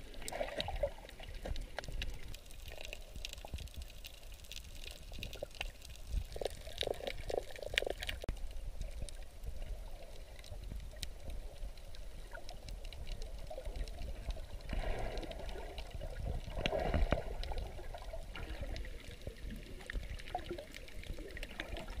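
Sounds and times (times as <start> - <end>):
underwater rumble with gurgling: 0.0 - 22.0.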